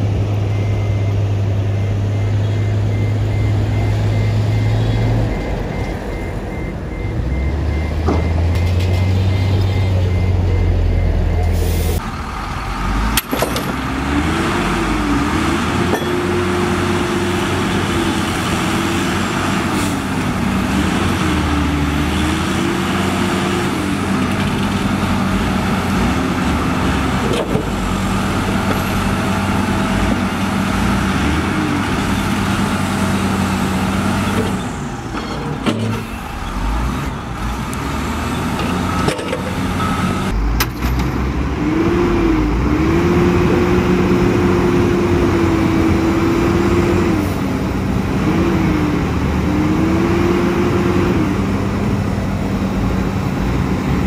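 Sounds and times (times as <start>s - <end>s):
heavy diesel engines revving: 0.0s - 54.0s.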